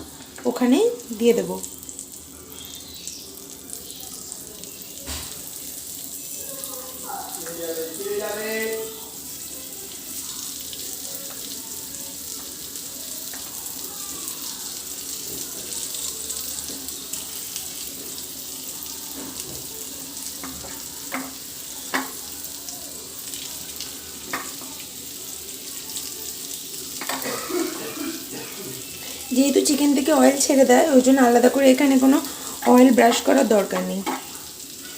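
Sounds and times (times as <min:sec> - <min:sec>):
chicken sizzling in a frying pan: 0:00.0 - 0:34.9.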